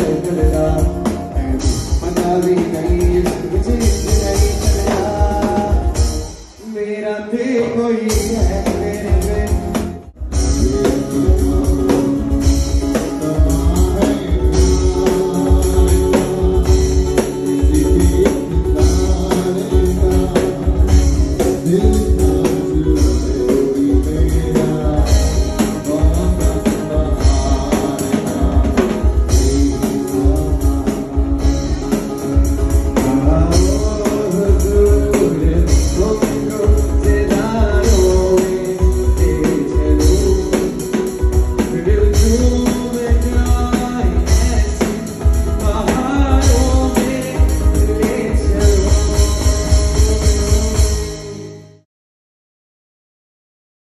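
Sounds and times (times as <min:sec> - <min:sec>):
drum kit and percussion: 0:00.0 - 0:51.8
person singing: 0:00.0 - 0:51.8
acoustic guitar: 0:00.0 - 0:51.9.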